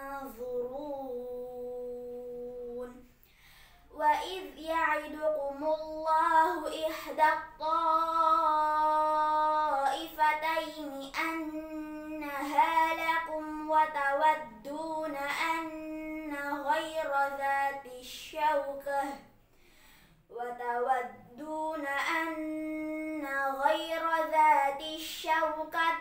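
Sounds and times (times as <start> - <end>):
girl chanting verses: 0.0 - 3.1, 3.9 - 19.4, 20.3 - 26.0.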